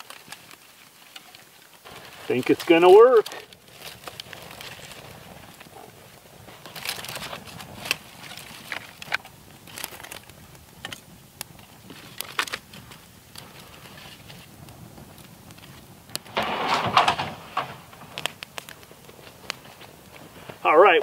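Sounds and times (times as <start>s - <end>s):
fire crackling and popping: 0.0s - 21.0s
twigs being handled: 0.0s - 21.0s.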